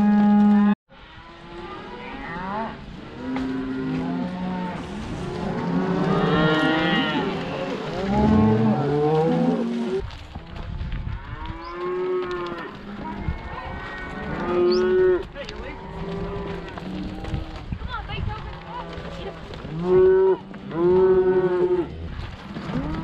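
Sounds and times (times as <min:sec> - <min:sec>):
cows mooing and bawling: 0:00.0 - 0:10.0, 0:11.1 - 0:17.6, 0:18.6 - 0:23.0.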